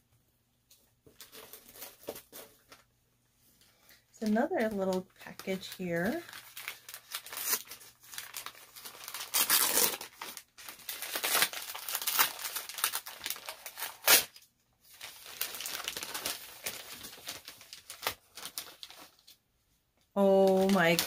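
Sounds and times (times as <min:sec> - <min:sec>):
wrapping paper crinkling and tearing: 0:01.1 - 0:02.9, 0:03.8 - 0:19.4, 0:20.2 - 0:21.0.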